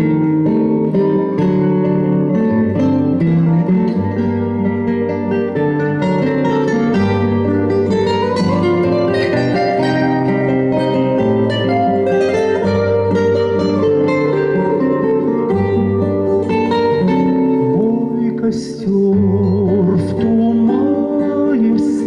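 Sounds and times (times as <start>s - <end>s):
plucked string accompaniment: 0.0s - 22.0s.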